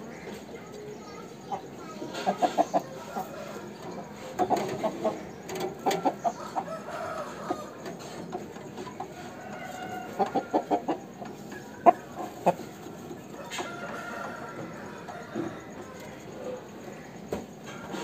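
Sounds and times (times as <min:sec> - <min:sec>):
rooster clucking: 0:00.0 - 0:18.0.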